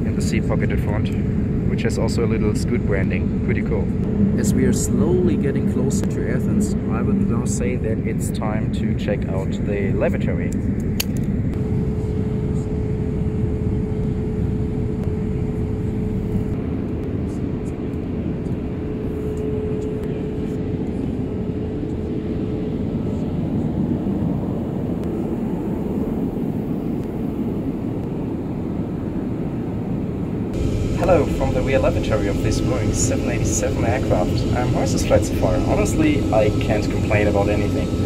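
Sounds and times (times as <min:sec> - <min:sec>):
airliner cabin engine rush: 0:00.0 - 0:38.0
faint steady hum: 0:00.0 - 0:38.0.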